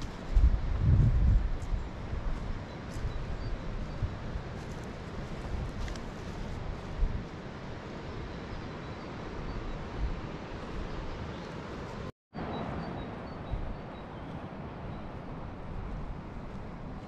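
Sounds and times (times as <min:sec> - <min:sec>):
wind buffeting microphone: 0:00.0 - 0:12.1, 0:12.9 - 0:17.0.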